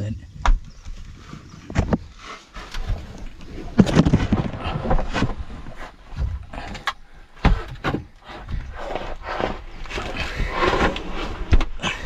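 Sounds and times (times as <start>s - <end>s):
rustling: 0.7s - 12.0s.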